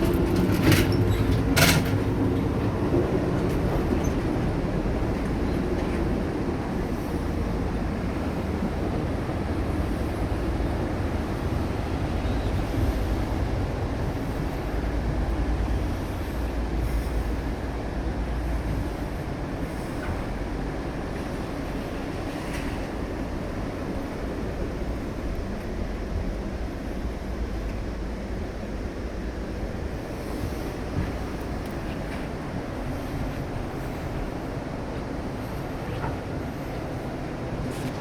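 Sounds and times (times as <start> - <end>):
train rumble inside coach: 0.0 - 38.0.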